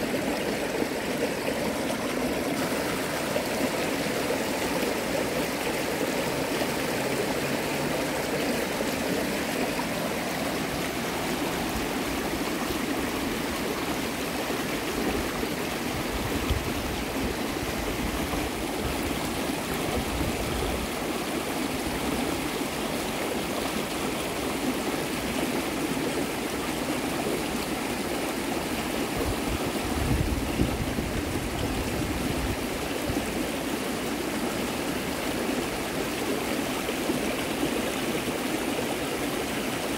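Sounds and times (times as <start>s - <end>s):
creek water rushing over rapids: 0.0s - 39.9s.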